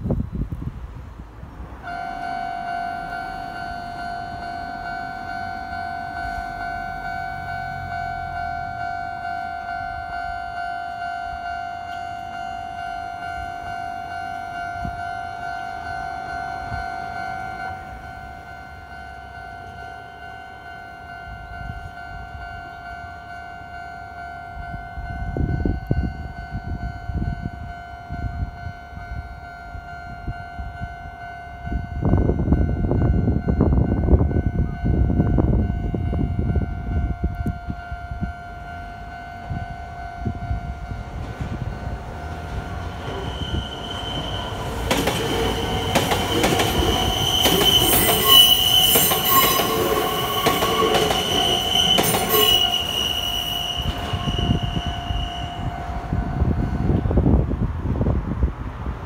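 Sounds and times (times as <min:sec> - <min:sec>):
low rumble of train: 0:00.0 - 0:59.0
level crossing alarm clanging: 0:01.8 - 0:57.1.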